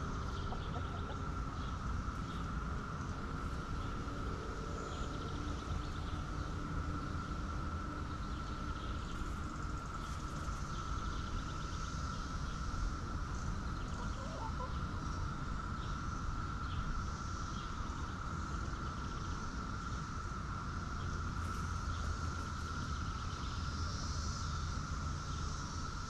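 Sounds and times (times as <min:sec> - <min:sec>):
insect drone: 0:00.0 - 0:26.0.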